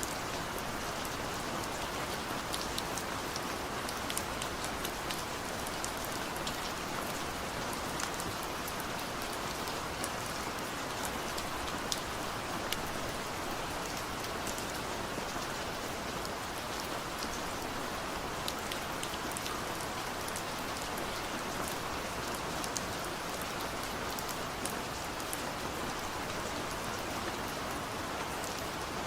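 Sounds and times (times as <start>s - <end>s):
raindrops ticking on surface: 0.0s - 29.0s.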